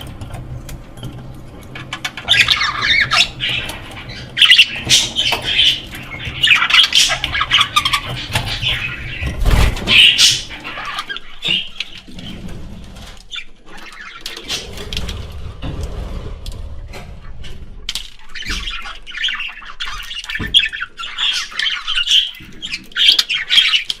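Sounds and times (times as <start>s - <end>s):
budgerigars chirping and squawking: 0.0s - 15.8s, 17.0s - 24.0s.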